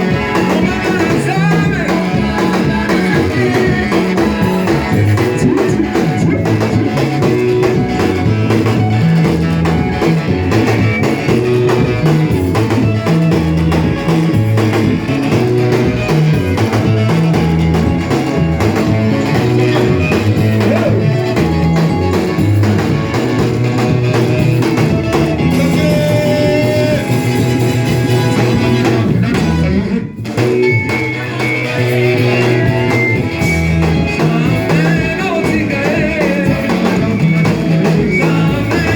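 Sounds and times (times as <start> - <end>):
band music with guitar and drums: 0.0 - 38.9.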